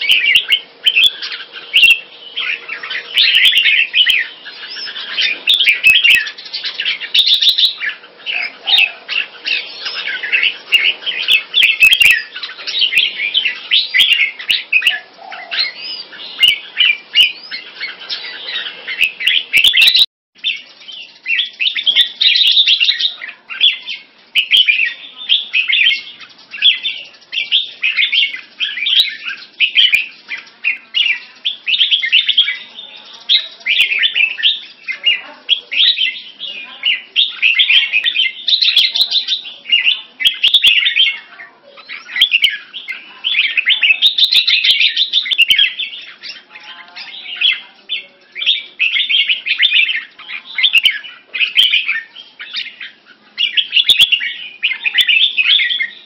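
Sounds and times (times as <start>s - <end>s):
birds chattering song: 0.0s - 56.0s.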